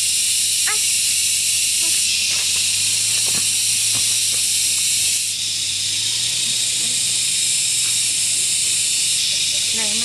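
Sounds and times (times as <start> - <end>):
loud high hiss: 0.0 - 10.0.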